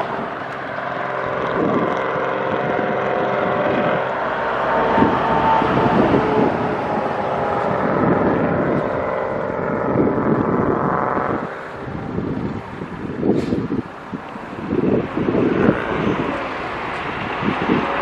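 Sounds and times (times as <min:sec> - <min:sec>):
steady engine drone: 0:00.0 - 0:18.0
wind buffeting microphone: 0:00.0 - 0:18.0.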